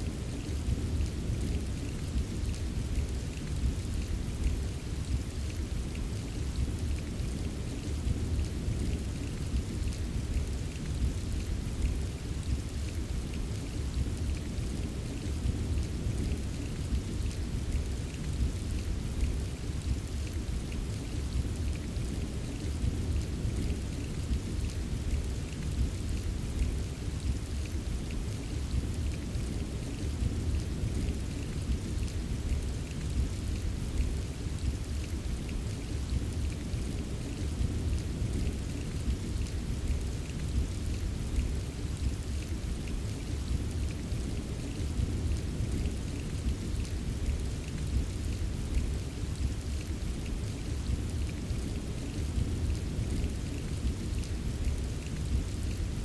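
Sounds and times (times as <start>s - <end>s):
constant low rumble: 0.0s - 56.0s
rain patter: 0.0s - 56.0s.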